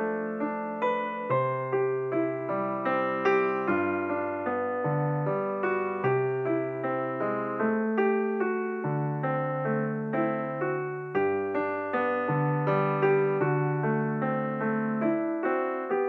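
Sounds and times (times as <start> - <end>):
gentle piano tune: 0.0 - 16.0.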